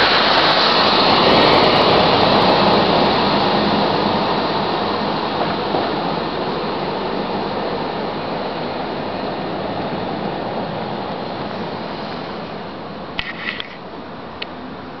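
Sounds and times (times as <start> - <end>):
street traffic road noise: 0.0 - 15.0.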